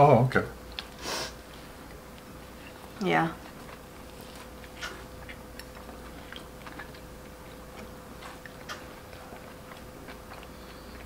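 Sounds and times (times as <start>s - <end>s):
faint steady hum: 0.0s - 11.0s
people chewing: 0.7s - 11.0s.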